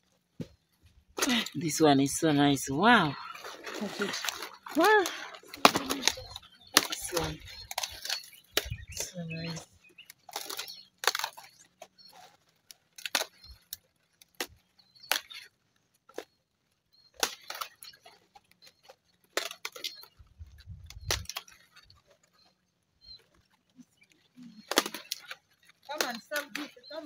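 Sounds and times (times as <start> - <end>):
leaves snapping and rustling: 1.0 - 27.0.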